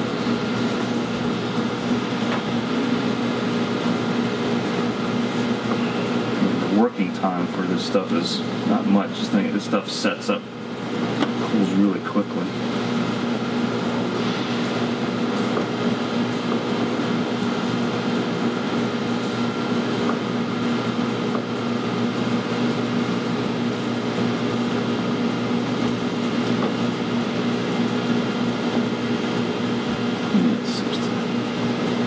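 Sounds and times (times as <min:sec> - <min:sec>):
fan motor humming: 0:00.0 - 0:32.0.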